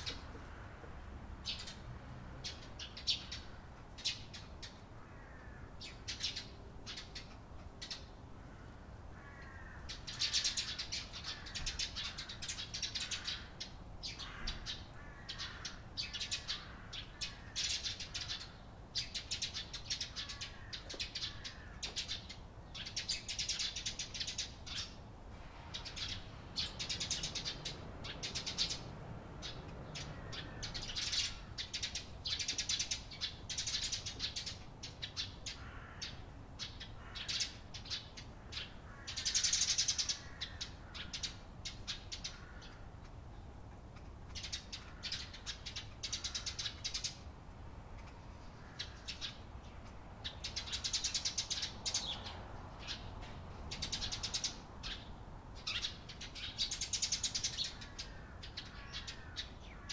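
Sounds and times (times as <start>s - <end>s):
sparrows chirping: 0.0s - 47.3s, 47.9s - 59.9s.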